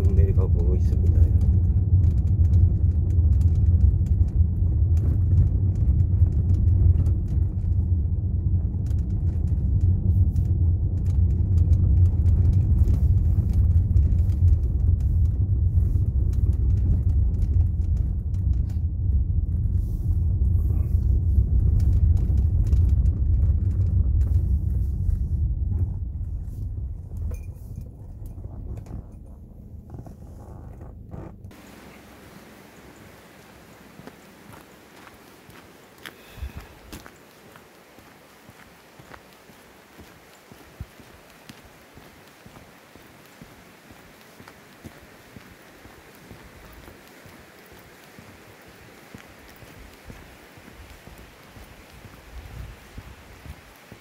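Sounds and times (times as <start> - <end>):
taxi rumbling over rough road: 0.0 - 54.0.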